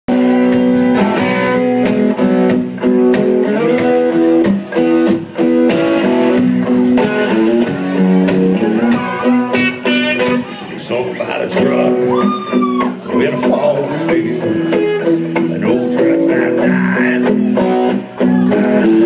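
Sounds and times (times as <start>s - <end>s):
guitar chords: 0.1s - 19.0s
live country band playing: 0.1s - 19.0s.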